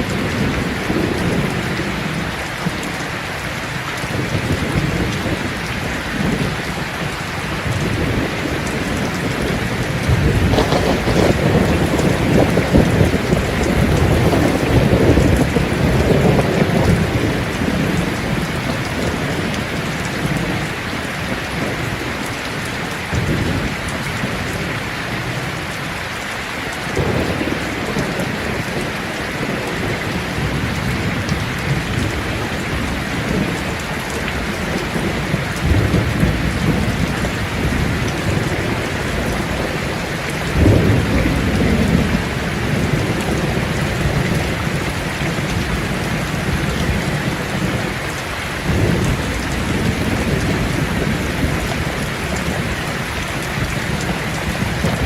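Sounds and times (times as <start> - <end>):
thunder rumbling: 0.0 - 25.6, 26.9 - 55.0
heavy rain falling: 0.0 - 55.0.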